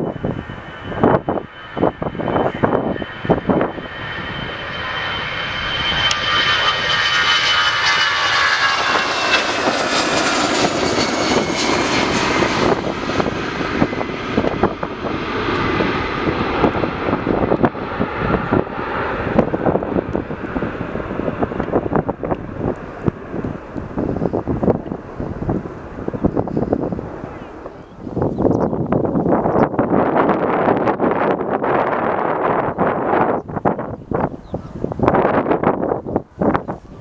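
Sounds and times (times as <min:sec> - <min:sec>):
jet airliner passing: 0:00.0 - 0:37.0
wind buffeting microphone: 0:00.0 - 0:37.0.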